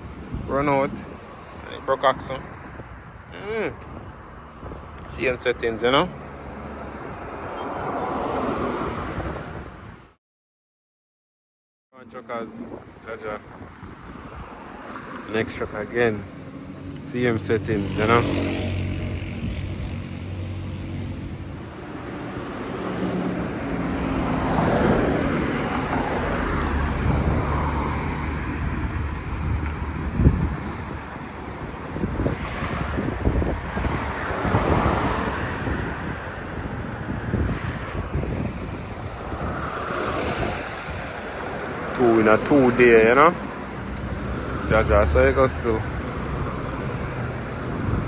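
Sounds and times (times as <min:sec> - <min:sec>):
wind buffeting microphone: 0:00.0 - 0:10.2, 0:12.3 - 0:48.0.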